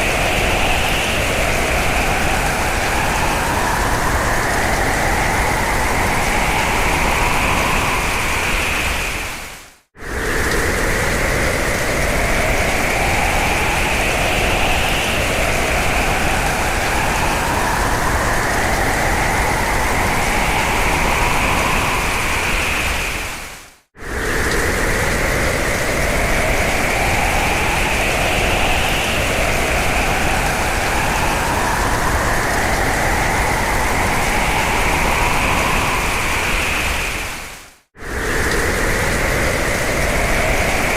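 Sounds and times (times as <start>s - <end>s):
wind howling and whistling: 0.0s - 40.9s.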